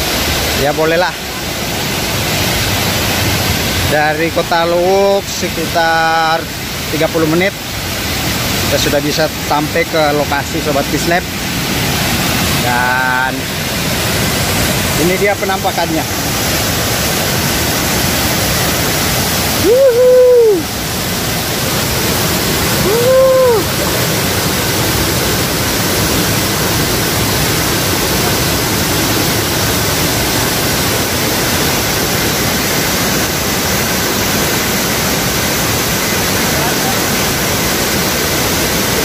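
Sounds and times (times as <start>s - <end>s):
waterfall rushing into pool: 0.0s - 39.0s.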